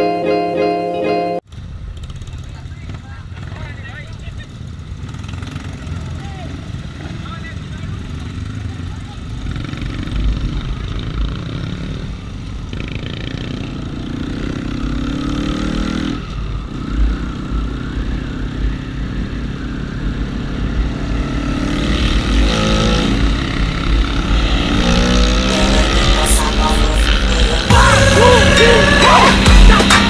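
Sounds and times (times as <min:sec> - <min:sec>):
motorcycle engine revving: 0:01.5 - 0:30.0.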